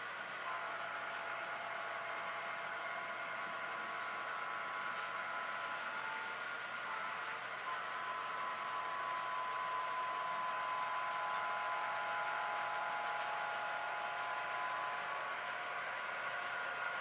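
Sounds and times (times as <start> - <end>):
model train whining: 0.0 - 17.0.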